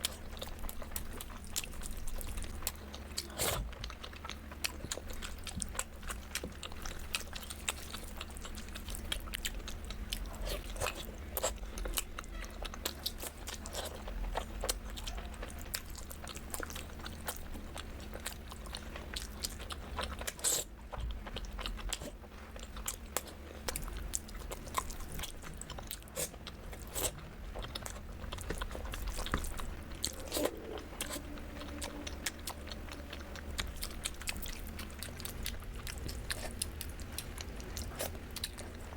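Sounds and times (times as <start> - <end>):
crunchy food chewing: 0.0 - 38.9
steady low hum: 0.0 - 38.9.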